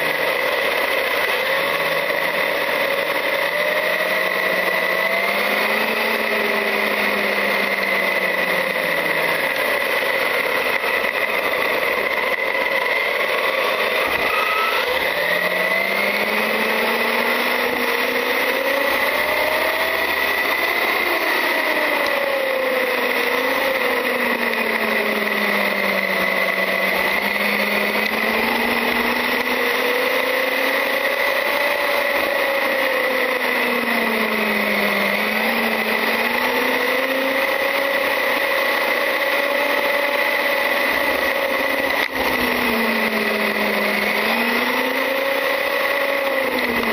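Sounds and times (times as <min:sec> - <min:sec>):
electric motor whine: 0:00.0 - 0:46.9.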